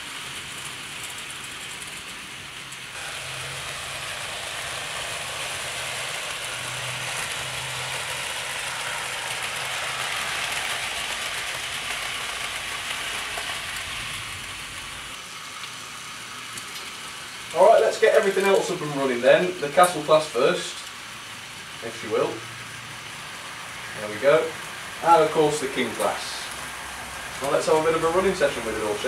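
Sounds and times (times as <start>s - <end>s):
model train motor whirring: 0.0s - 29.0s.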